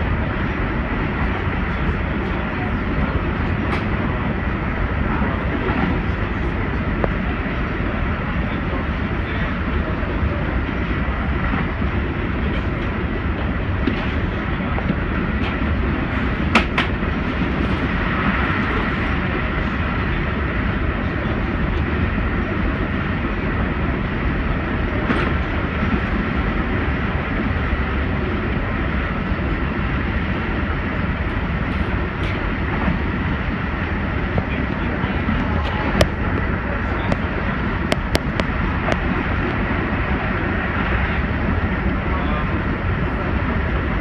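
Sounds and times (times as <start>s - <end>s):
train rumbling and hissing: 0.0s - 44.0s.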